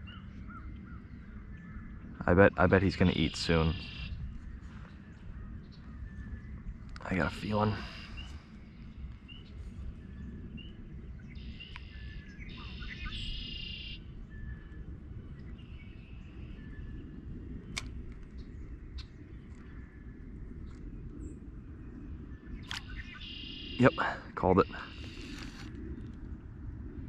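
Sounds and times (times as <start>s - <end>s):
birds chirping and singing: 0.0s - 26.1s
low outdoor rumble: 0.0s - 27.0s.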